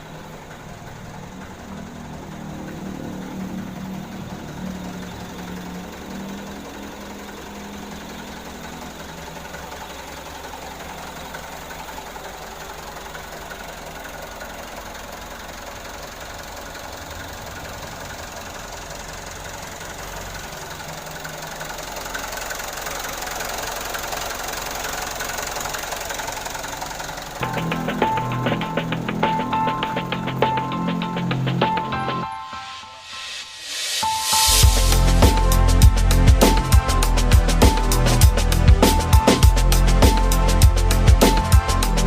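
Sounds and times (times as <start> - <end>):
engine running: 0.0 - 32.4, 33.1 - 42.0.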